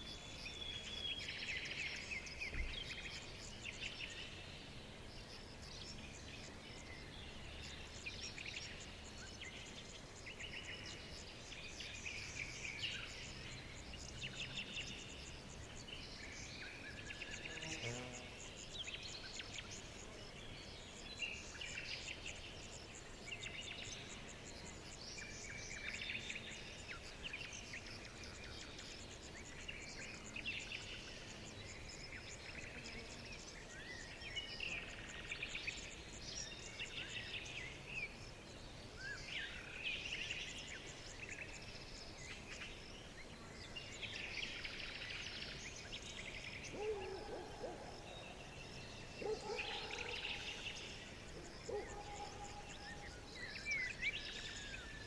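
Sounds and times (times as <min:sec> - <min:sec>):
faint low background noise: 0:00.0 - 0:55.0
songbirds chirping and singing: 0:00.0 - 0:55.0.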